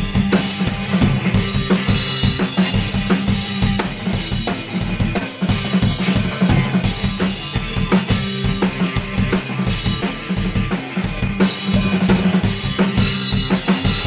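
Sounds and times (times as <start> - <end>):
electric guitar chords: 0.0 - 14.0
rock drum kit: 0.0 - 14.0.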